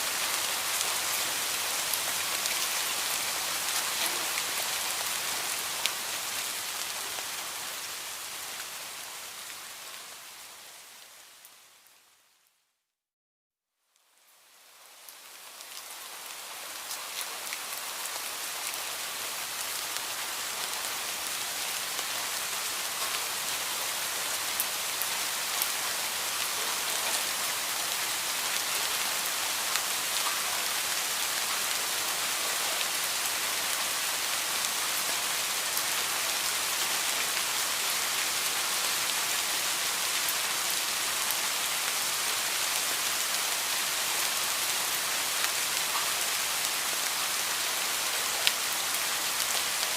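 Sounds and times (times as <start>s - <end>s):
heavy rain falling: 0.0s - 11.7s, 14.2s - 49.9s.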